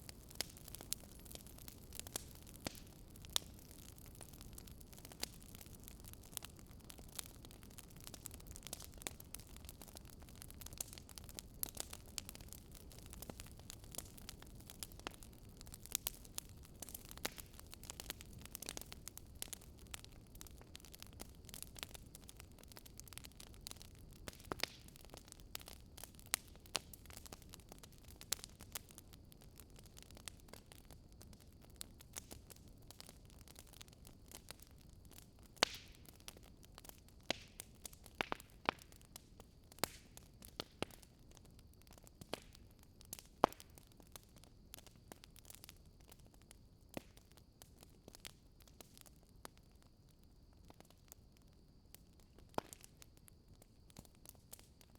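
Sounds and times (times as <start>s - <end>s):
low rumble of burning: 0.0s - 54.9s
wood fire crackling and popping: 0.0s - 54.9s.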